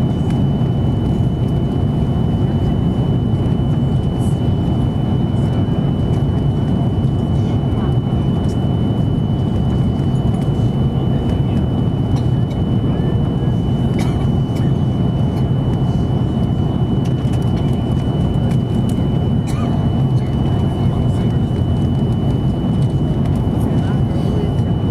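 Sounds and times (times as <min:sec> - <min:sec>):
airplane cabin engine drone: 0:00.0 - 0:24.9.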